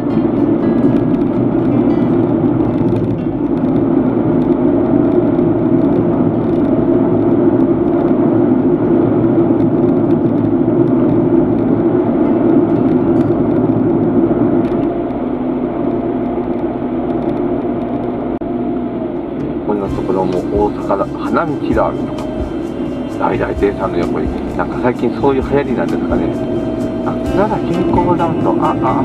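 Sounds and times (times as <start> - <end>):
car road and engine noise: 0.0 - 29.0
faint whine: 0.0 - 29.0.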